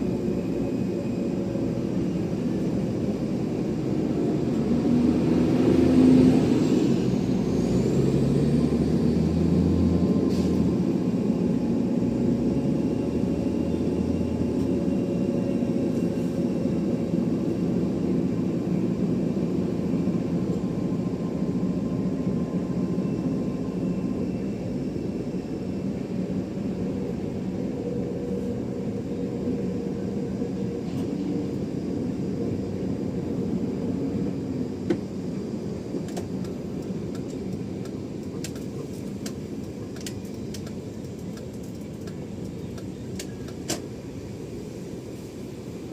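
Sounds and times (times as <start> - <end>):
aircraft engines rumbling: 0.0 - 45.9.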